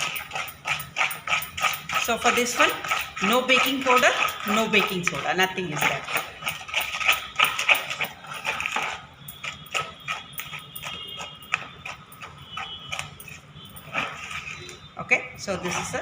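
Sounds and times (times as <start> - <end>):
spatula scraping and tapping bowl: 0.0 - 14.8, 15.5 - 16.0.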